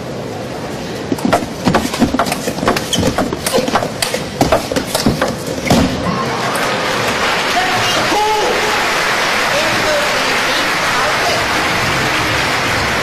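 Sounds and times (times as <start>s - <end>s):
crowd hum: 0.0s - 13.0s.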